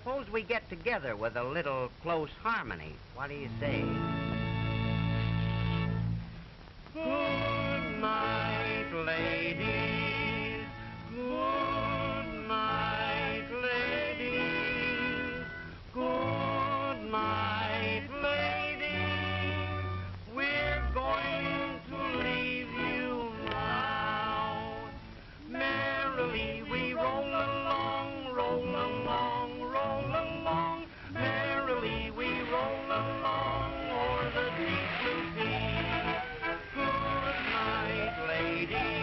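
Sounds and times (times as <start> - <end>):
instrumental accompaniment: 3.3 - 39.0
two voices singing in harmony: 6.9 - 39.0.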